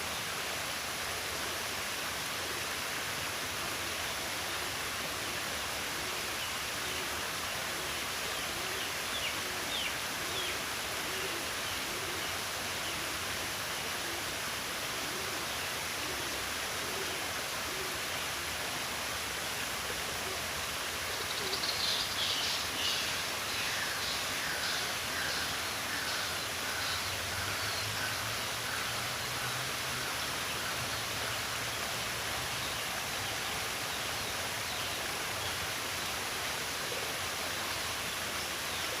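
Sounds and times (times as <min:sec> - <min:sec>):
running water rushing: 0:00.0 - 0:39.0.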